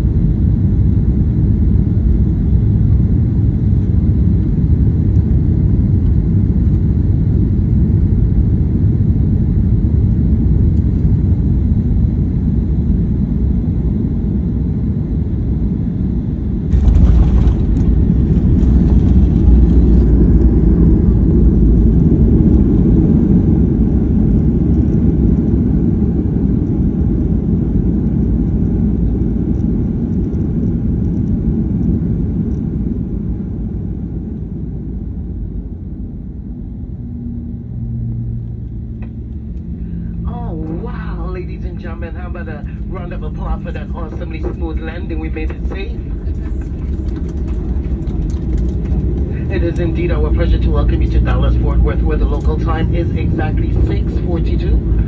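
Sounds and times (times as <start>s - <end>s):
jet engines and airflow rumble: 0.0s - 55.0s.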